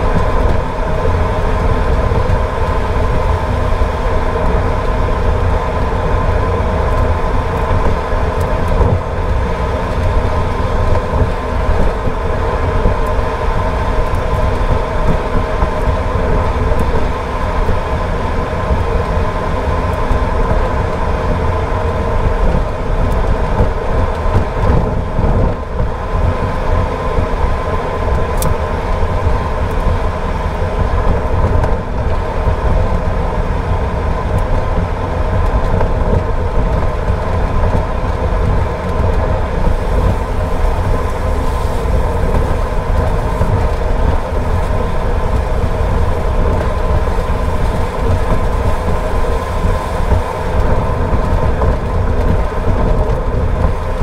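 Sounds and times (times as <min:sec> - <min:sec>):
car driving on wet road: 0:00.0 - 0:54.0.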